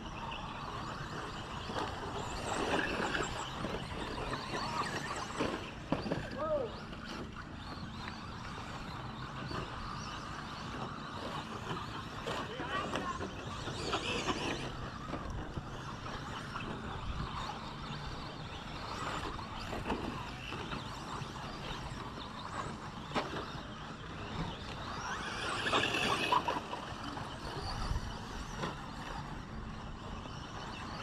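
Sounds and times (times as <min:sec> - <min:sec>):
rc truck motors whining: 0:00.0 - 0:31.0.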